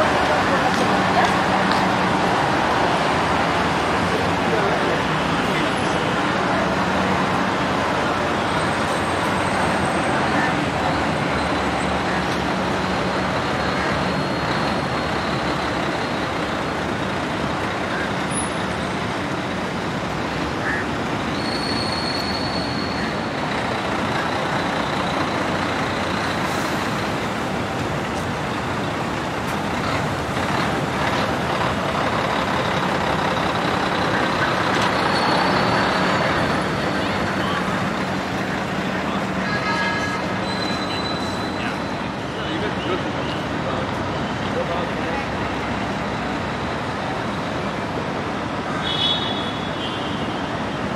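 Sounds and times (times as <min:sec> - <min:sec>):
road traffic noise: 0:00.0 - 0:50.9.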